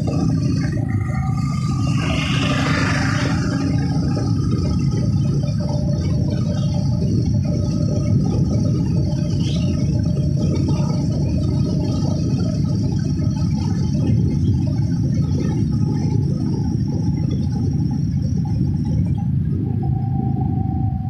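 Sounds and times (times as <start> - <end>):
motorbike engine rumble: 0.0 - 21.0
wind noise on microphone: 0.0 - 21.0.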